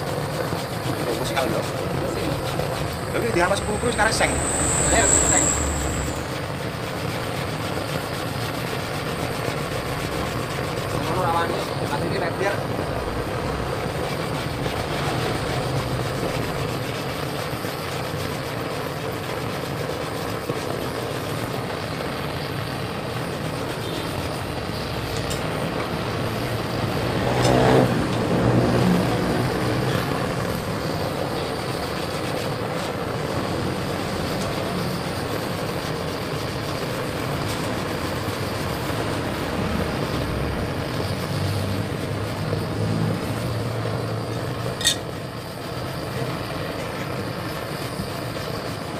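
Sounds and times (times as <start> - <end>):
engine-like sound: 0.0 - 18.2, 21.4 - 48.8
gas torch hissing: 0.0 - 48.9.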